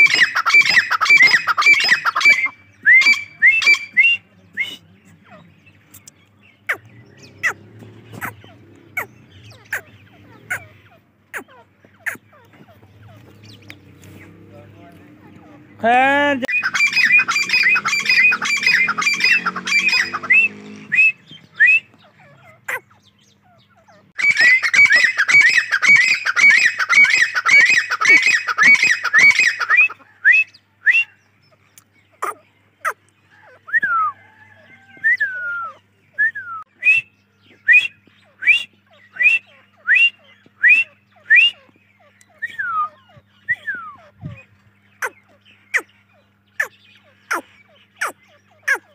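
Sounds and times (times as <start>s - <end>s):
francolin calling: 0.0s - 48.9s.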